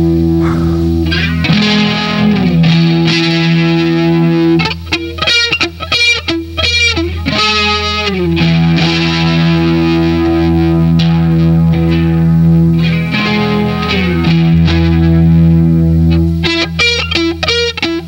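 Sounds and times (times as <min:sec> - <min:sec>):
bass guitar drone: 0:00.0 - 0:18.0
distorted electric guitar: 0:00.0 - 0:18.0.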